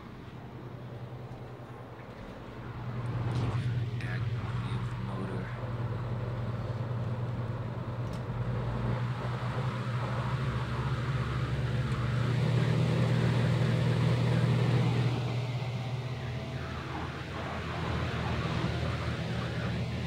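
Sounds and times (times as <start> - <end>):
box fan running: 0.0 - 20.0.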